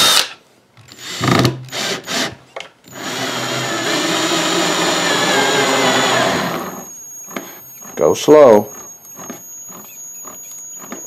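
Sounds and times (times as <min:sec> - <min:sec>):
cordless drill whining: 0:00.0 - 0:02.3, 0:02.9 - 0:11.0.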